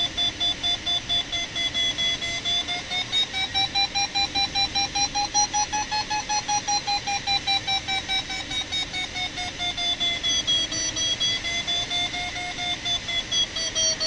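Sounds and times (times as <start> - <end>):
variometer beeping: 0.0 - 14.0.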